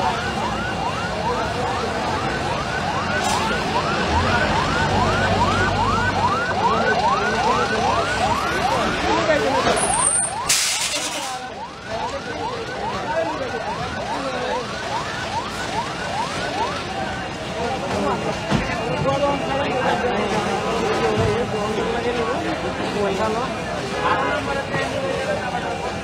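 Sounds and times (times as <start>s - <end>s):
crowd noise: 0.0s - 26.0s
fire engine siren yelping: 0.0s - 26.0s.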